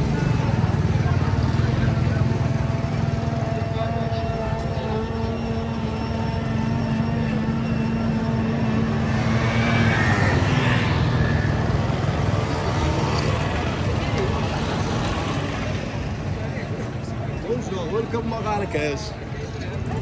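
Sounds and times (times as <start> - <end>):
motor engine running: 0.0 - 17.4.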